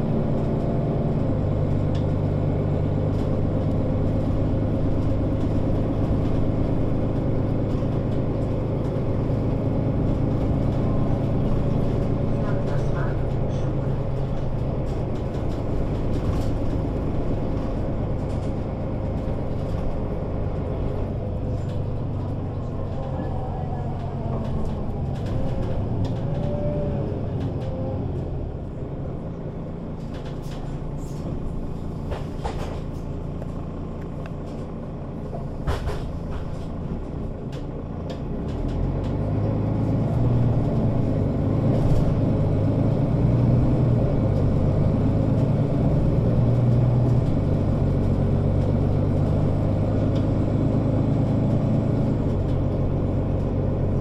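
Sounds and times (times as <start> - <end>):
bus engine droning: 0.0 - 54.0
rattles and clicks: 0.3 - 28.3, 29.3 - 54.0.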